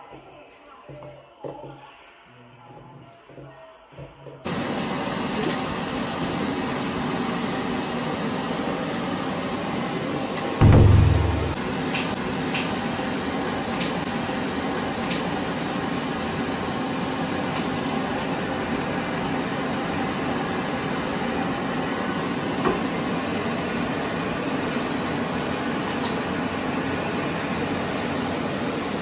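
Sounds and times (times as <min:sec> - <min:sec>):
fan blowing air: 0:04.5 - 0:29.0.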